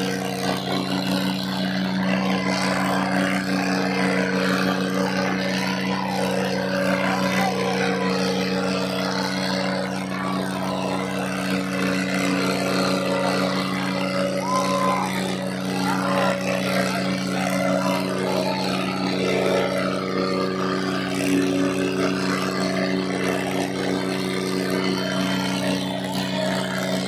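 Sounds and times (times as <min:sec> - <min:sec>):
crowd shouts: 0:00.0 - 0:27.0
diesel tractor engines labouring: 0:00.0 - 0:27.0.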